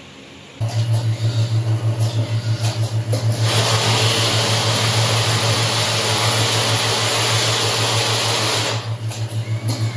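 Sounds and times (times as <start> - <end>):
feeder bowls humming: 0.6 - 9.9.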